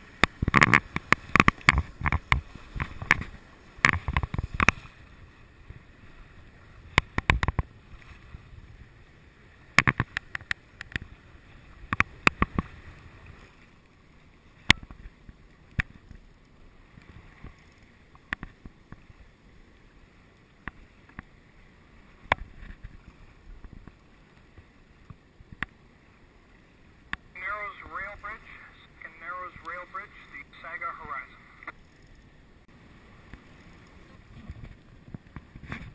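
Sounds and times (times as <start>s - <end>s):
wind and water rush: 0.0s - 35.9s.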